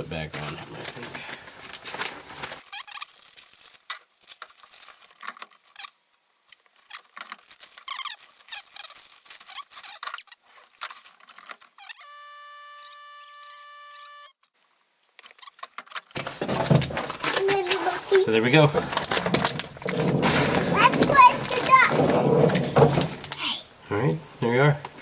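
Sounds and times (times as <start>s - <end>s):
plastic wrapping crinkling: 0.0s - 12.0s, 15.2s - 23.6s.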